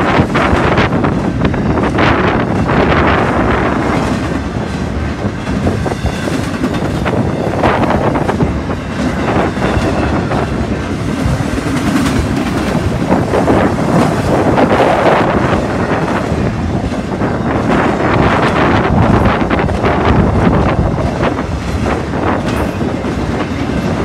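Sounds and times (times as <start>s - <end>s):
freight train wheels rumbling: 0.0s - 24.0s
wheels clacking on rails: 0.0s - 24.0s.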